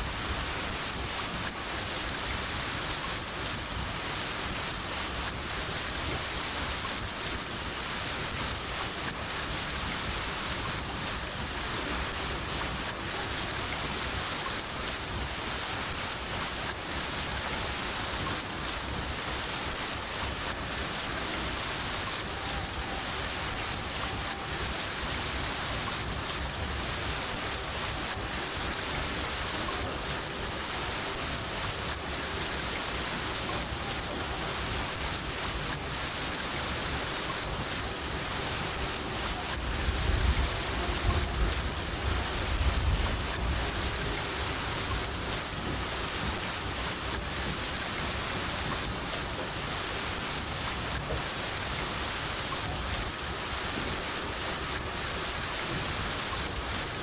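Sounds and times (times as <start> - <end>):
cricket chirping: 0.0 - 57.0
hiss of rain: 0.0 - 57.0.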